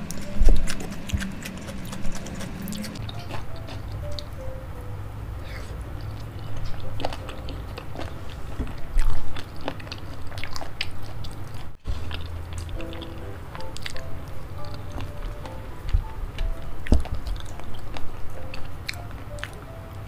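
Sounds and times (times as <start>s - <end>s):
wet chewing sounds: 0.0s - 4.3s, 5.4s - 19.7s
background music: 0.0s - 9.7s, 11.9s - 20.0s.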